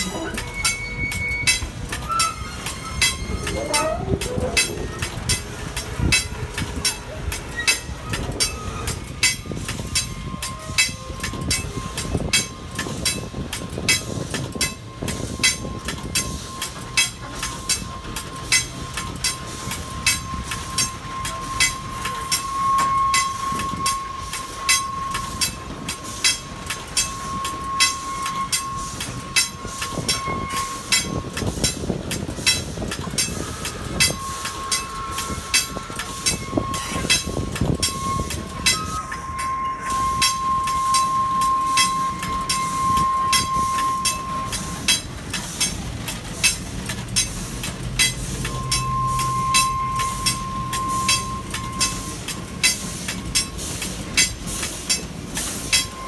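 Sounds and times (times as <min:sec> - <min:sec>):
high wheel squeal: 0:00.0 - 0:56.0
train wheels clicking over rail joints: 0:00.0 - 0:56.0.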